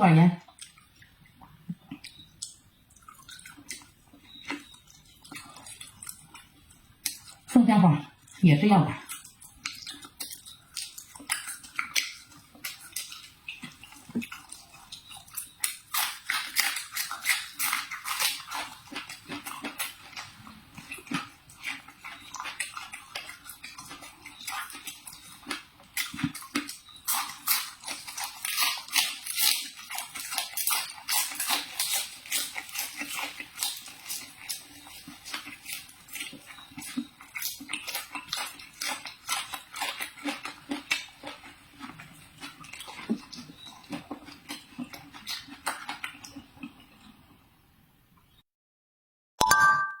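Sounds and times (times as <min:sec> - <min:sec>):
person chewing crunchy food: 0:00.5 - 0:07.5, 0:09.0 - 0:47.3.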